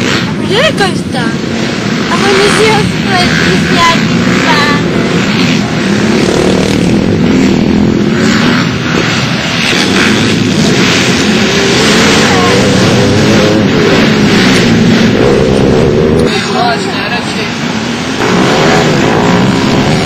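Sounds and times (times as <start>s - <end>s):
pit bike engines revving: 0.0s - 20.0s.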